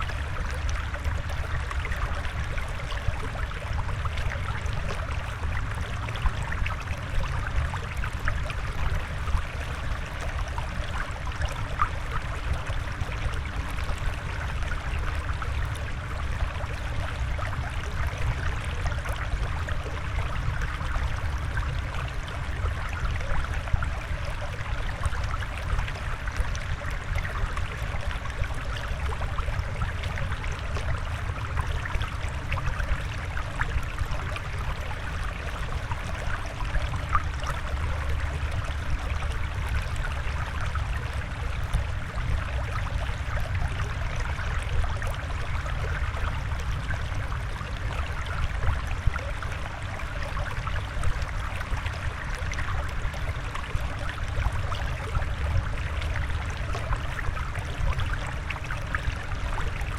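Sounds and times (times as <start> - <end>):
water trickling: 0.0 - 59.9.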